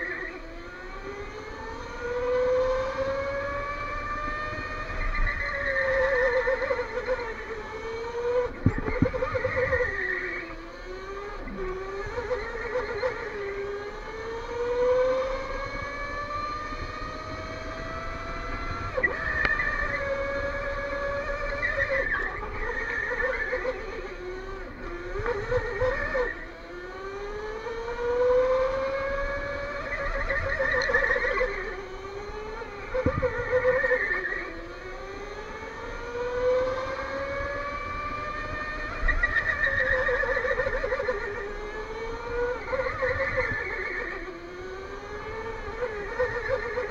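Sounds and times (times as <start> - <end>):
electric go-kart motor whining: 0.0 - 46.9.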